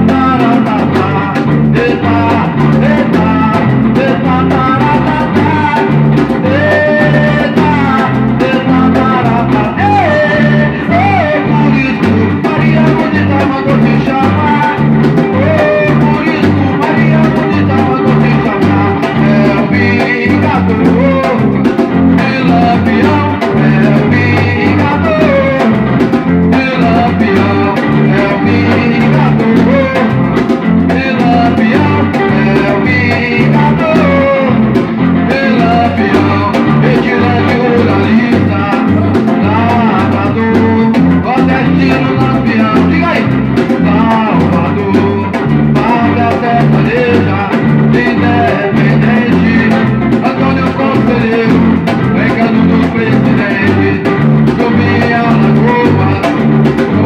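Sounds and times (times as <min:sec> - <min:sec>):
instrumental melody line: 0:00.0 - 0:57.0
low drum rhythm: 0:00.0 - 0:57.0.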